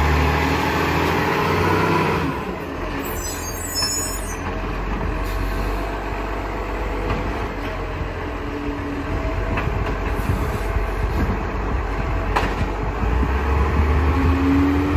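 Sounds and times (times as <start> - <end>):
garbage truck diesel engine rumbling: 0.0 - 14.9.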